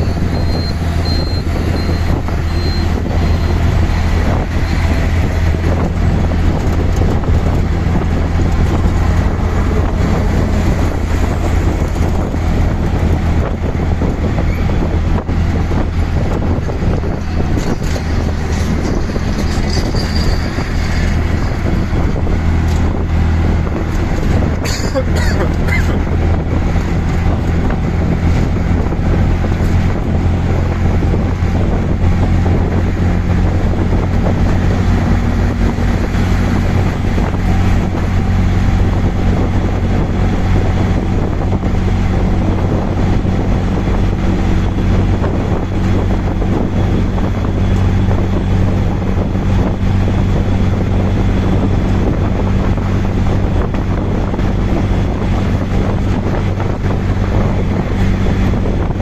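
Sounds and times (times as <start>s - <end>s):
auto-rickshaw engine humming: 0.0s - 59.0s
wind rushing over microphone: 0.0s - 59.0s.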